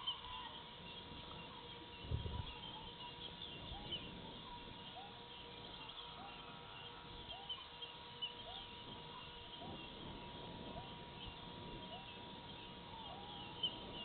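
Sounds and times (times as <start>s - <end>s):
electrical hum: 0.0s - 14.0s
faint animal call: 0.0s - 14.0s.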